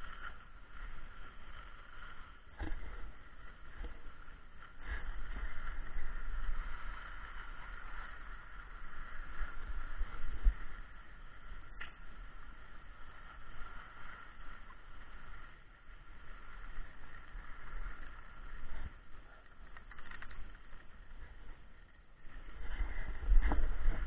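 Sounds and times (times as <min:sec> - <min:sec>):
skis sliding over snow: 0:00.0 - 0:24.0.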